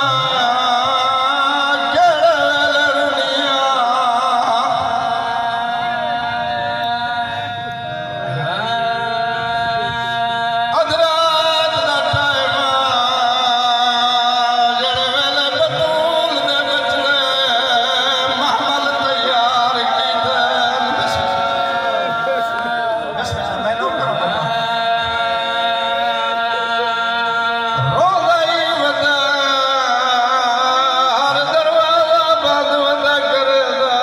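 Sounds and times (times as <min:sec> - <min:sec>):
man chanting into a microphone: 0:00.0 - 0:34.0.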